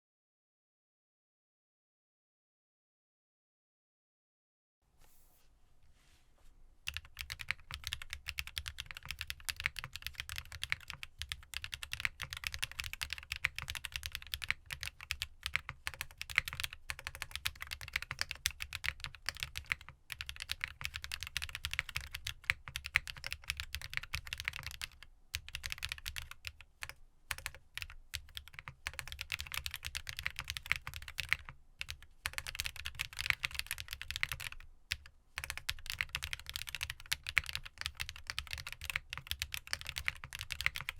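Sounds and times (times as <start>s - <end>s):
fast typing on mechanical keyboard: 6.9s - 40.9s.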